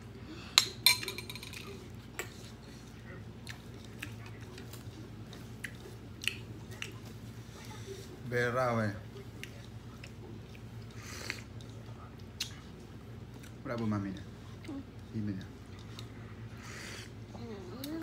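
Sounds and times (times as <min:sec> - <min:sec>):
chewing: 0:01.7 - 0:08.2, 0:09.1 - 0:17.1.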